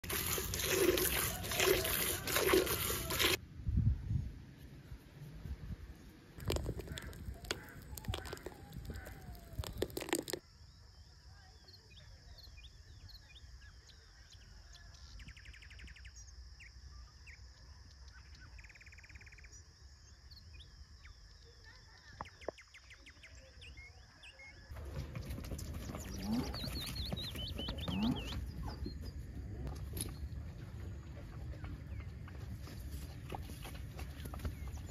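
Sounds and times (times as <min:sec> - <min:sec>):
small birds chirping: 0:06.4 - 0:34.9.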